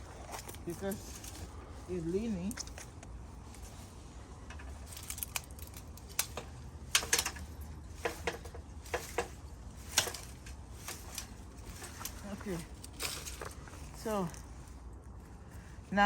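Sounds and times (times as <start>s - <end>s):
dry plant stalks snipping: 0.0s - 15.6s.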